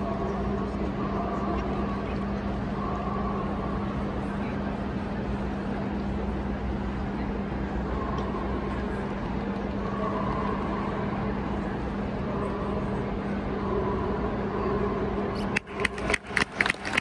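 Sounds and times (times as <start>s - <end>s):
indistinct crowd chatter: 0.0s - 17.0s
low hum: 0.0s - 17.0s.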